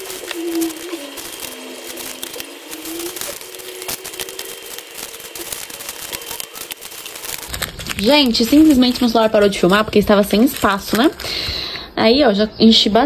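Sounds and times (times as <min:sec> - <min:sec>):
plastic bags crinkling: 0:00.0 - 0:11.9.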